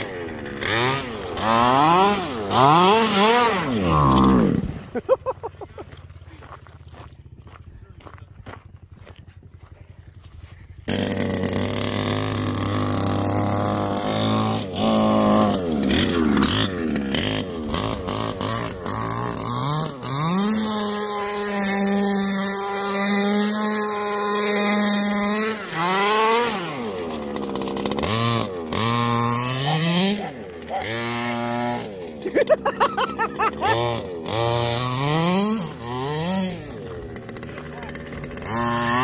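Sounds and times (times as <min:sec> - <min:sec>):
small two-stroke engine revving: 0:00.0 - 0:07.5, 0:08.6 - 0:39.0.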